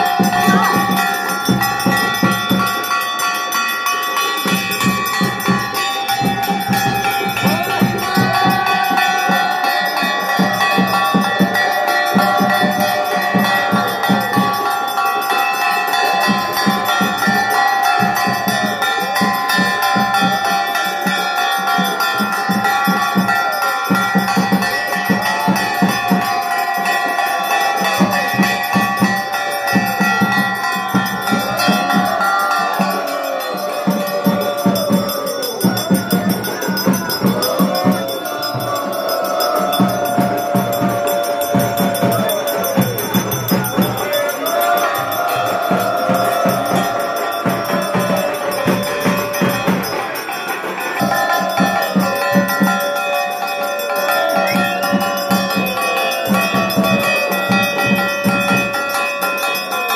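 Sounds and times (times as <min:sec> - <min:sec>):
brass bells ringing: 0:00.0 - 0:59.9
rapid drum beats: 0:00.0 - 0:59.9
wavering melody: 0:00.0 - 0:59.9.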